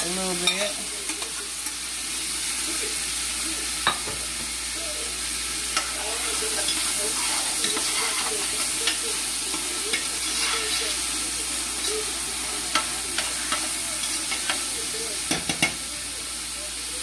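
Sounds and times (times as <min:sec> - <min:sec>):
carrots sizzling in a pot: 0:00.0 - 0:17.0.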